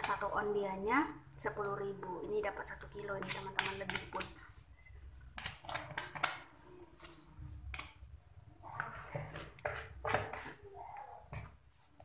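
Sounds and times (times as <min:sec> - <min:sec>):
plastic spoon scraping paste: 0:00.0 - 0:00.8, 0:01.4 - 0:12.0.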